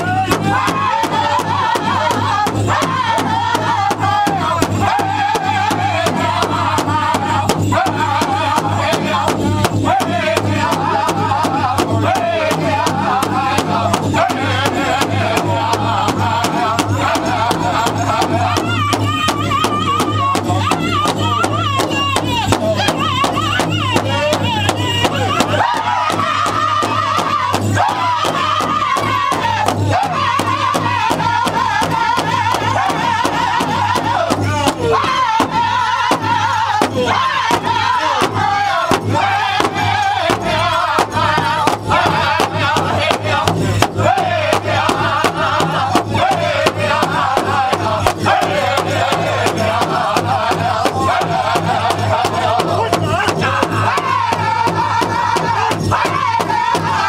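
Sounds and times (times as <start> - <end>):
steady beat on large drum: 0.0 - 57.0
voices singing in unison: 0.0 - 57.0.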